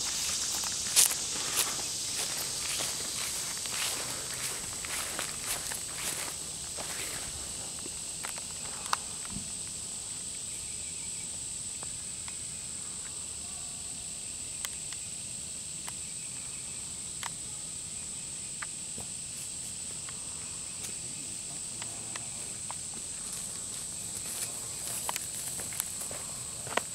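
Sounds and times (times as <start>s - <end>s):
insects droning: 0.0s - 26.9s.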